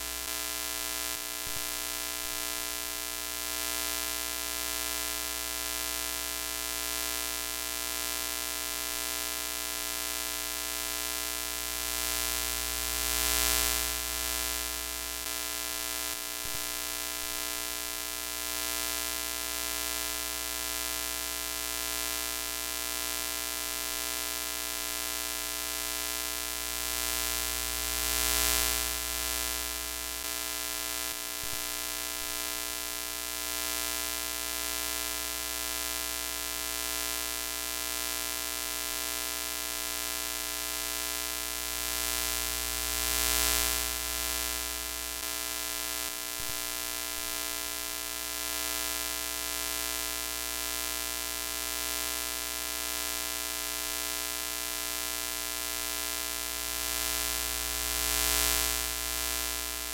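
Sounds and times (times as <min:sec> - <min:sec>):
electrical buzzing hum: 0:00.0 - 0:59.9.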